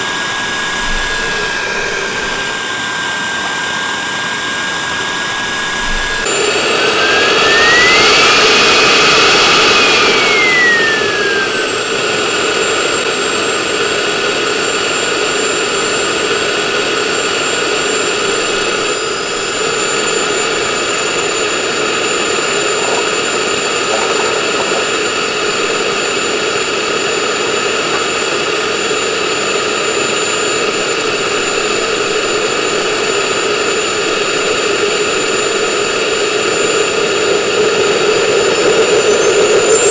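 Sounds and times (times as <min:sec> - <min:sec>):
model jet turbine whine: 0:00.0 - 0:39.9.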